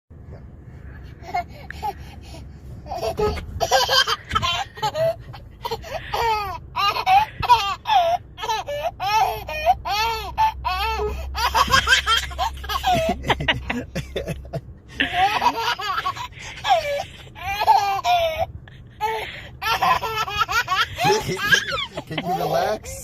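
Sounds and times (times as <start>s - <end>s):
baby laughing: 2.9s - 23.0s.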